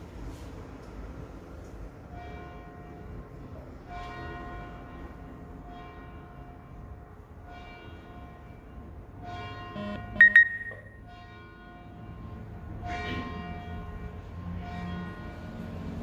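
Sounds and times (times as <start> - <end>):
church bell tolling: 2.1 - 16.0.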